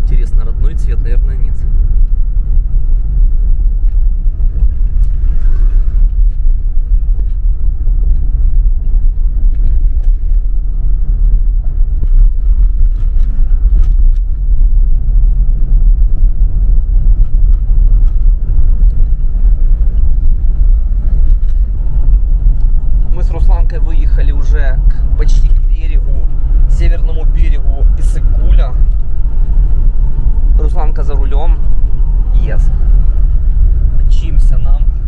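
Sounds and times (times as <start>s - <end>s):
car driving rumble: 0.0s - 35.0s.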